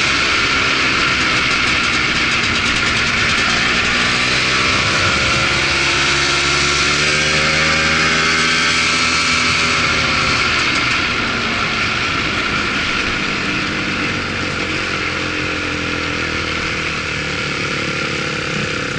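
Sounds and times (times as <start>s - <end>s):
atv engine revving: 0.0s - 18.9s.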